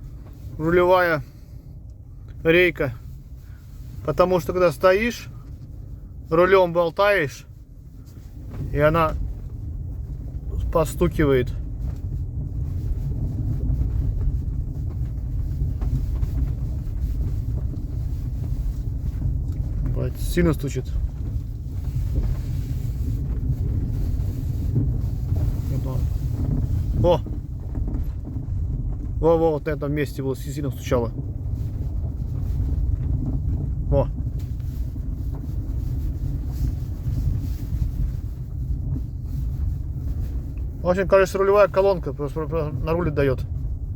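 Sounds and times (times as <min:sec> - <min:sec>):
road rumble inside car cabin: 0:00.0 - 0:43.9.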